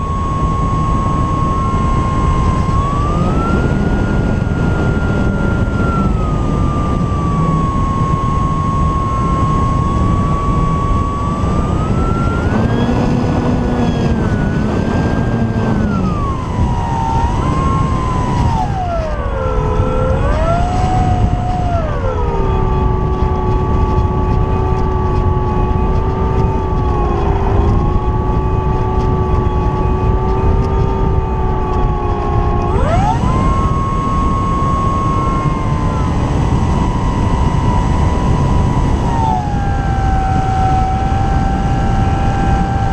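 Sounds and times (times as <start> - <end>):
electric motor and propeller whining: 0.0 - 42.9
wind rush on microphone: 0.0 - 42.9.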